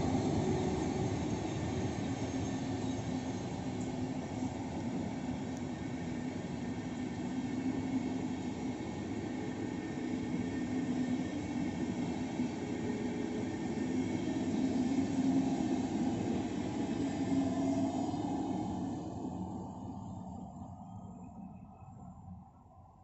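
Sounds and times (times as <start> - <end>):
train wheels rumbling on track: 0.0 - 21.6.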